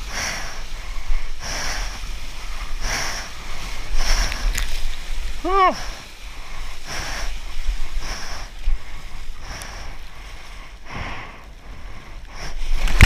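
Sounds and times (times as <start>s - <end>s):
whitewater rushing and splashing: 0.0s - 10.7s.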